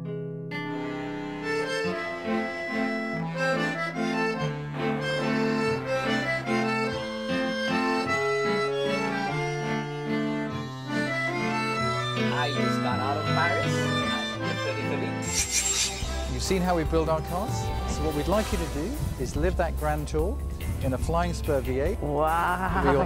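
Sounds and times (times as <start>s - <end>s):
accordion music: 0.0s - 20.5s.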